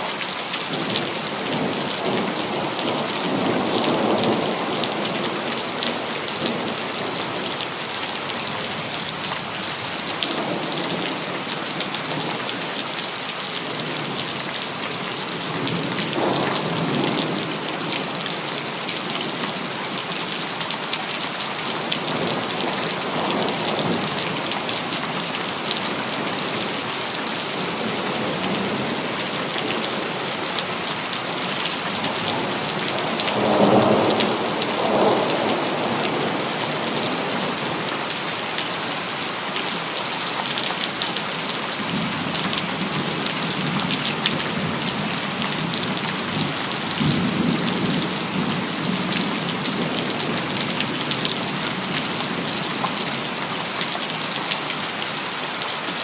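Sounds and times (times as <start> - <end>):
rain on hard surfaces: 0.0 - 56.0.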